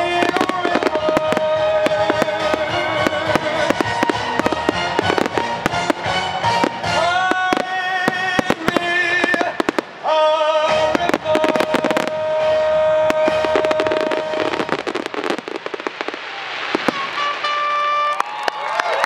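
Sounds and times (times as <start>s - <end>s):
music soundtrack: 0.0s - 18.2s
fireworks bangs and crackling: 0.0s - 19.0s.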